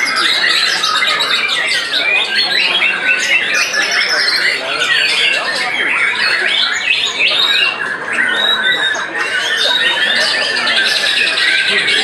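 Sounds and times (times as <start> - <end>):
birds singing whistles and trills: 0.0 - 12.0.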